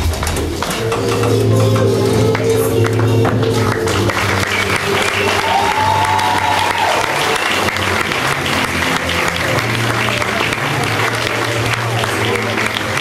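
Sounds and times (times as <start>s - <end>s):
audience applauding: 0.0s - 13.0s
music with long held notes: 0.0s - 13.0s.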